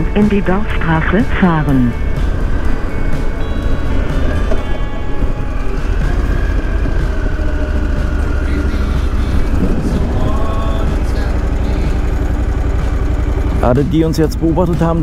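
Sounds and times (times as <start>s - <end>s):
motorcycle running: 0.0s - 15.0s.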